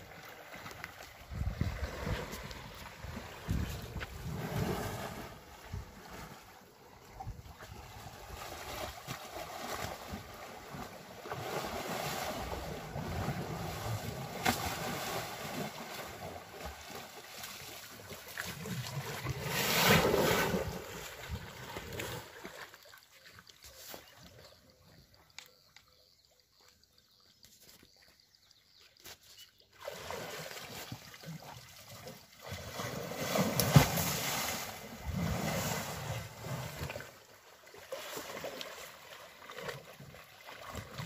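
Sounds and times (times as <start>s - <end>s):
water splashing and sloshing: 0.0s - 41.0s.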